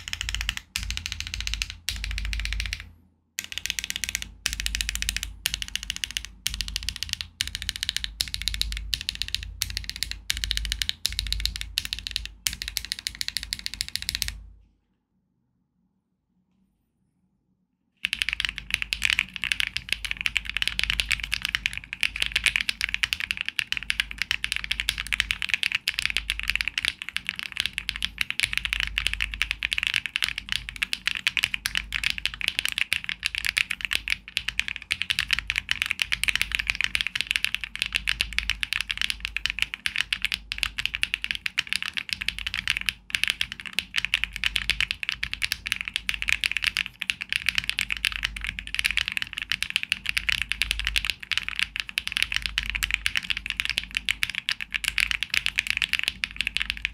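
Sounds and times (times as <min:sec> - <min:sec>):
fast mechanical keyboard typing: 0:00.0 - 0:14.4, 0:18.0 - 0:56.9.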